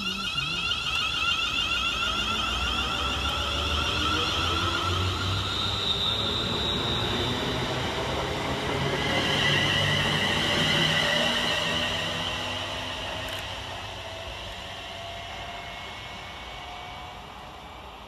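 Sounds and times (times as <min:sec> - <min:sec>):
electric traction whine: 0:00.0 - 0:18.0
train wheels rumbling on rails: 0:00.0 - 0:18.0.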